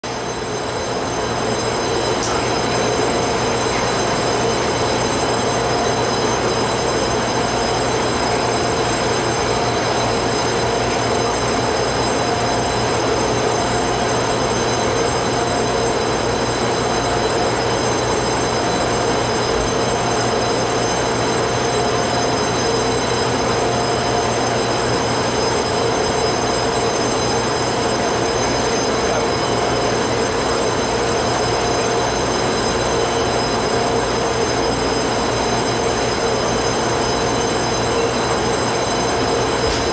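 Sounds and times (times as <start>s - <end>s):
steady whine: 0.0s - 39.9s.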